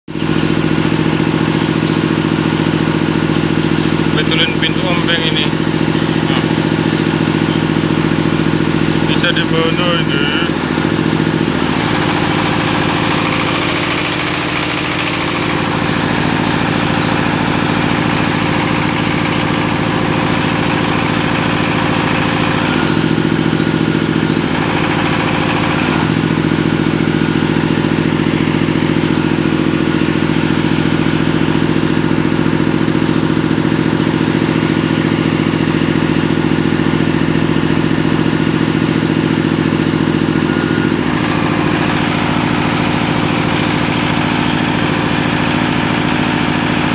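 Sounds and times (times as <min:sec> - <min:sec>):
diesel engine running steadily: 0:00.1 - 0:46.9.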